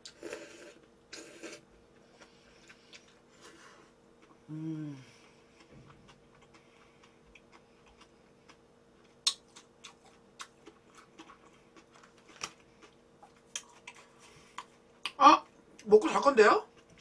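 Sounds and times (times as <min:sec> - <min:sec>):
mouth chewing food: 0:00.0 - 0:15.9
faint steady hum: 0:00.0 - 0:17.0.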